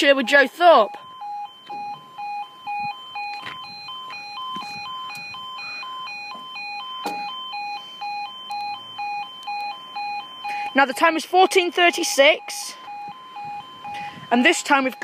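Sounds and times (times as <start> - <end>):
two-tone crossing alarm: 0.0 - 15.0.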